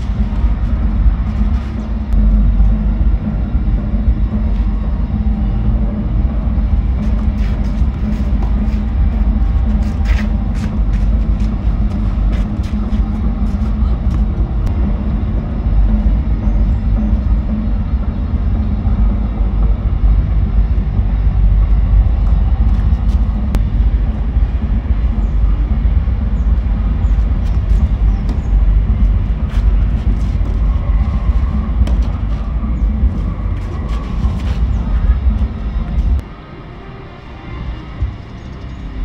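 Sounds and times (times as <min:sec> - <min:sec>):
loud low rumbling: 0:00.0 - 0:39.0.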